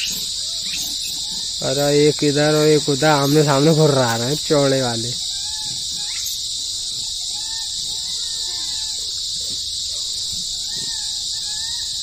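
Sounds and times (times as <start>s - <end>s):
insects buzzing: 0.0s - 12.0s
monkeys squealing: 0.0s - 12.0s.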